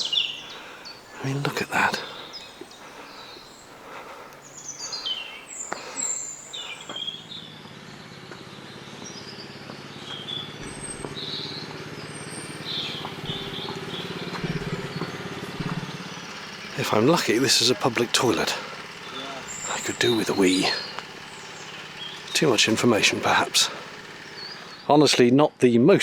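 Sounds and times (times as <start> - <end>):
low engine hum: 0.0 - 25.2
small birds chirping: 0.0 - 26.0.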